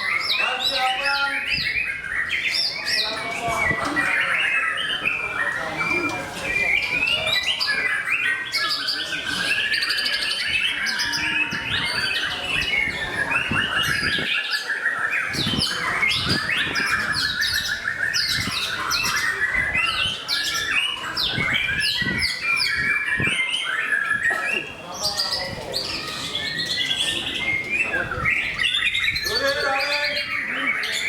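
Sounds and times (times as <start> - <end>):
songbird whistling and chirping: 0.0 - 31.0.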